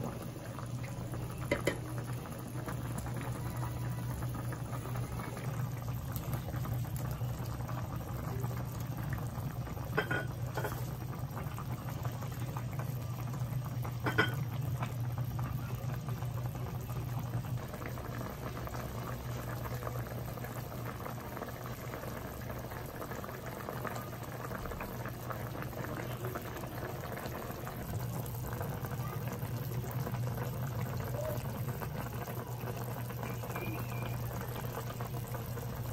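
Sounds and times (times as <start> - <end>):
stew bubbling in a wok: 0.0 - 35.9.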